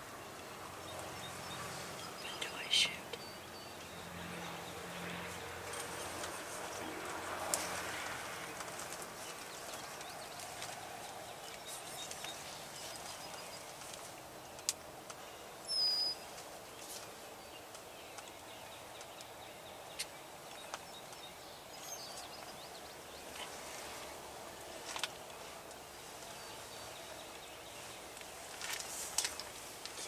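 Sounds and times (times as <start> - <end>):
open-air hiss: 0.0 - 30.0.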